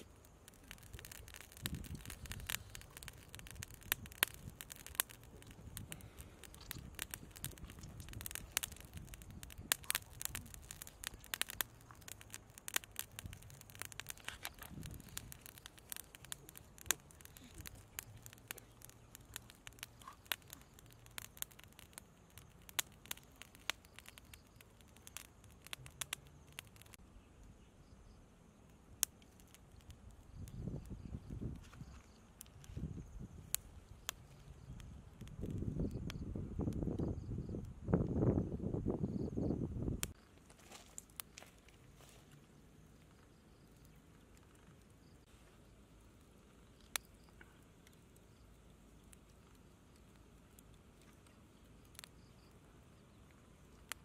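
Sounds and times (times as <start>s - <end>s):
wood fire crackling and popping: 0.0s - 27.0s, 28.6s - 54.0s.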